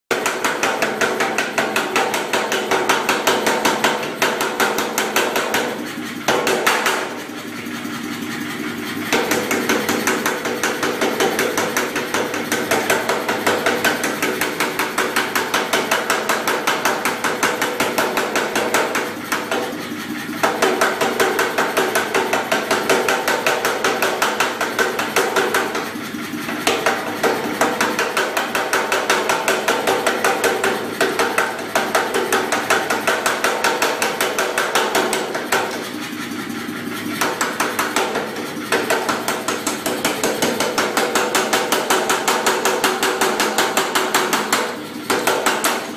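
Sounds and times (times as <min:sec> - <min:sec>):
power hammer striking metal: 0:00.1 - 0:07.5, 0:09.0 - 0:36.0, 0:37.0 - 0:45.9.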